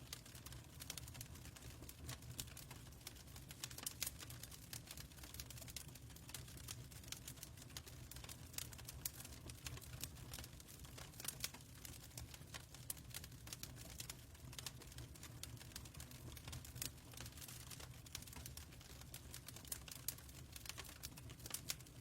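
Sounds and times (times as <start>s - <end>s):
fireplace crackling: 0.1s - 22.0s.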